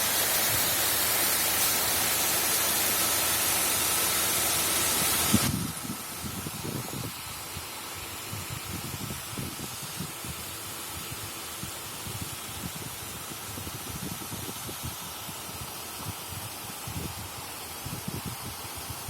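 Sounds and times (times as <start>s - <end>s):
waterfall hiss: 0.0s - 19.0s.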